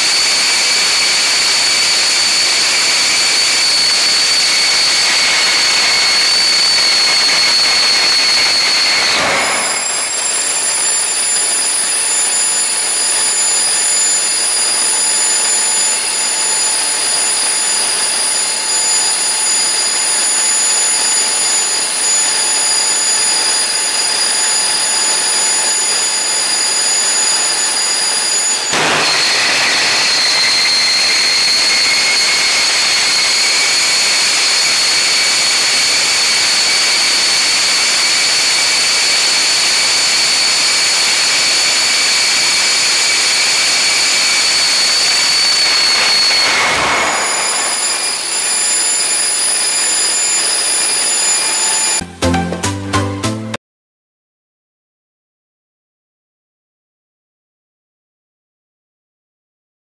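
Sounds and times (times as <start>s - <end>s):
jet engine roar: 0.0s - 52.0s
high turbine whine: 0.0s - 52.1s.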